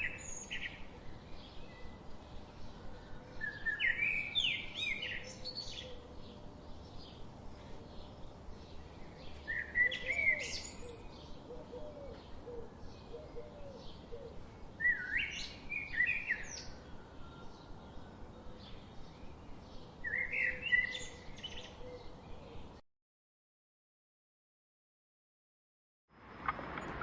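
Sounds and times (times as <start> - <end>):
bird song phrase: 0.0 - 22.8
birds chirping: 0.0 - 22.8.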